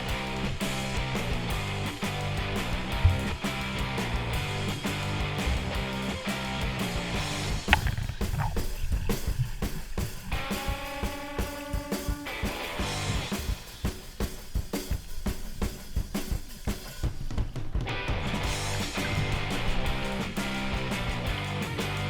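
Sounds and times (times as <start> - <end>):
drum-kit beat: 0.0 - 22.0.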